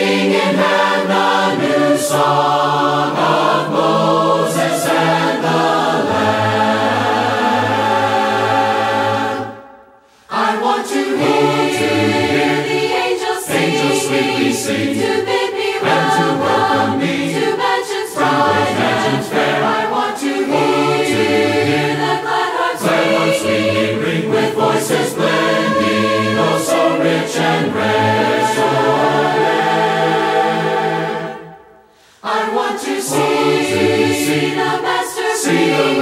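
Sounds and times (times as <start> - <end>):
choir singing a gospel hymn: 0.0 - 36.0.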